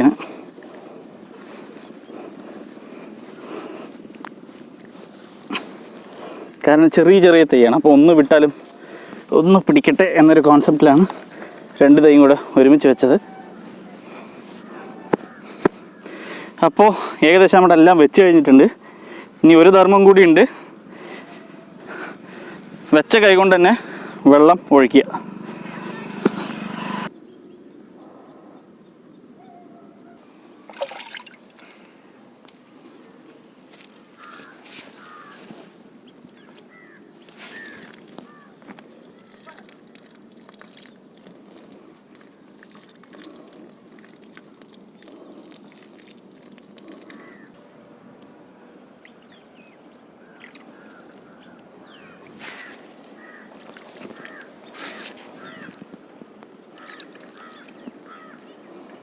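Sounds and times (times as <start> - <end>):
water trickling onto soil: 0.0 - 26.6, 30.7 - 31.8, 34.2 - 47.6, 49.0 - 59.0.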